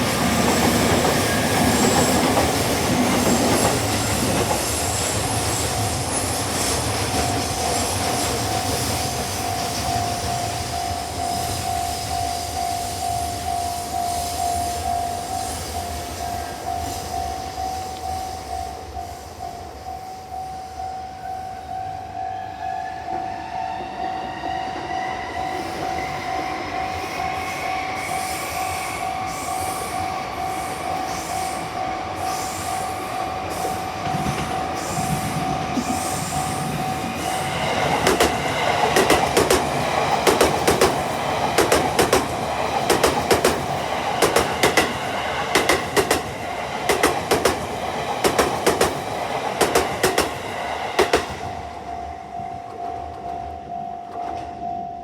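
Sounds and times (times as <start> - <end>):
train wheels clacking on rails: 0.0 - 20.2, 24.7 - 54.8.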